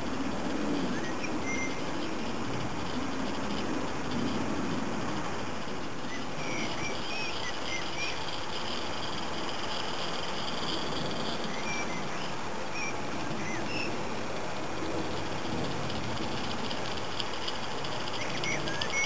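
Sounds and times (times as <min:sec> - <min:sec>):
steady hiss: 0:00.0 - 0:19.0
small birds chirping: 0:00.7 - 0:04.4, 0:05.2 - 0:19.0.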